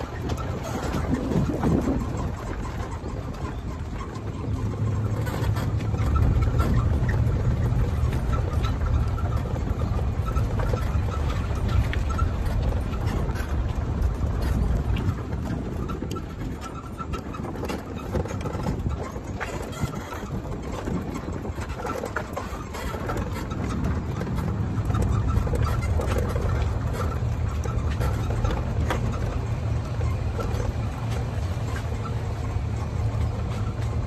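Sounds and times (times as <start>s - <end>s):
golf cart rumbling: 0.0s - 34.0s
wind on microphone: 0.0s - 34.0s.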